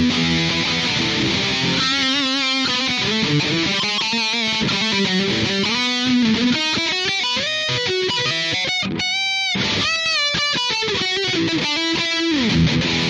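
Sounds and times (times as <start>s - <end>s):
distorted electric guitar lead: 0.0s - 13.0s.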